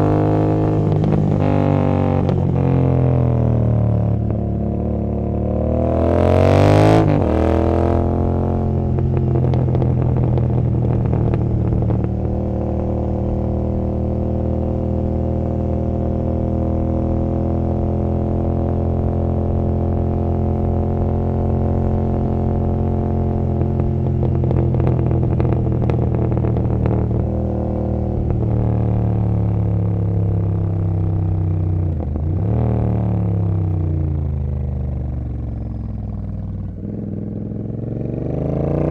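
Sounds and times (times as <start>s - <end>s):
motorcycle engine revving and cruising: 0.0s - 38.9s.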